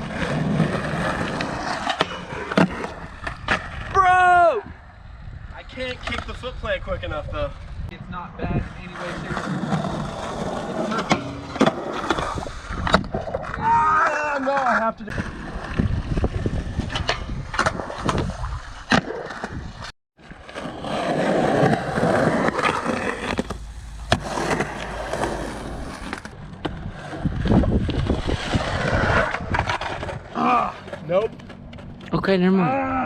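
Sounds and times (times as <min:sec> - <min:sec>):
skateboard wheels rolling on concrete: 0:00.0 - 0:32.6.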